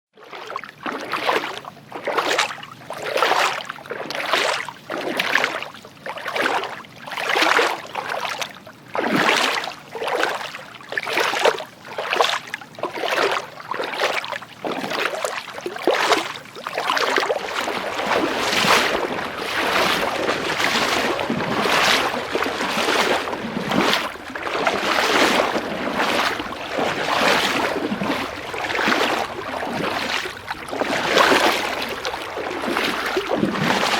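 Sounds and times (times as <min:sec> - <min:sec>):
water sloshing: 0:00.2 - 0:08.4, 0:09.0 - 0:33.9
footsteps splashing through water: 0:00.2 - 0:33.9.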